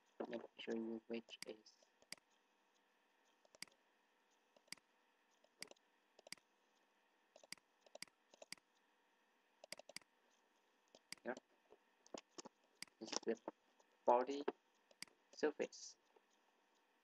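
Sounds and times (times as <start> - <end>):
computer mouse clicks: 0.2 - 6.5, 7.4 - 8.8, 9.6 - 11.4, 12.0 - 16.9.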